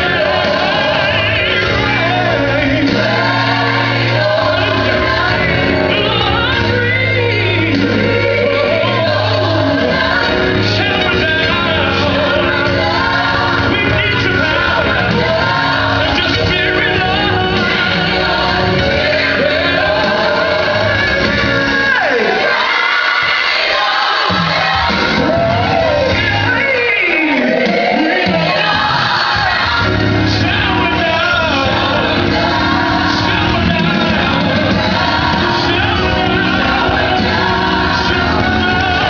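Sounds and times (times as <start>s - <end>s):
instrumental accompaniment: 0.0s - 39.0s
voices singing gospel song: 0.0s - 39.0s.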